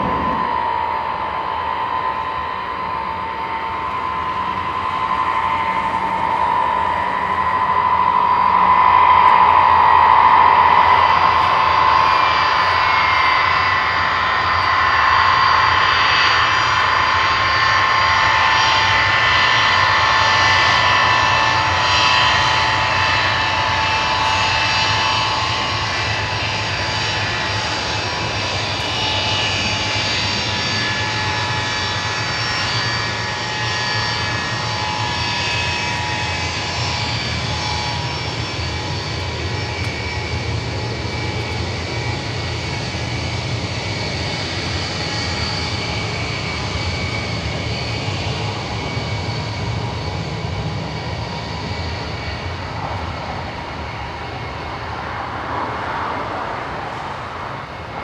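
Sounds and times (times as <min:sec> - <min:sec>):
engines high whine: 0:00.0 - 0:58.0
jet aircraft taxiing: 0:00.0 - 0:58.0.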